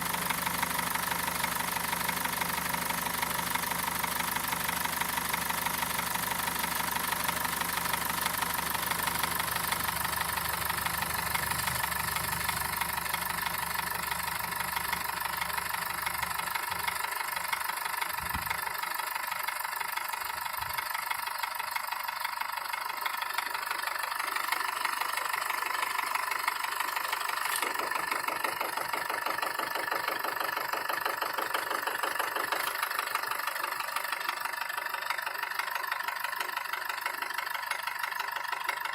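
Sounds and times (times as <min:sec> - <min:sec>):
diesel engine idling with knock: 0:00.0 - 0:38.9.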